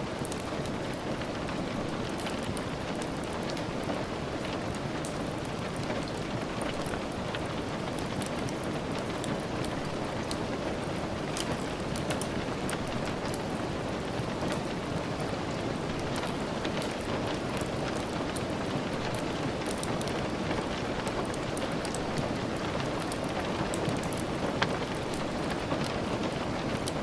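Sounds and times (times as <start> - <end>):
steady rain: 0.0 - 27.0
wood fire crackling: 0.1 - 27.0.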